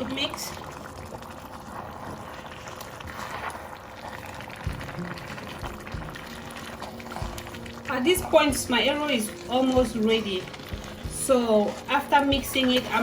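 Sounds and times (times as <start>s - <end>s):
stirring wet greens in a pot: 0.0s - 13.0s.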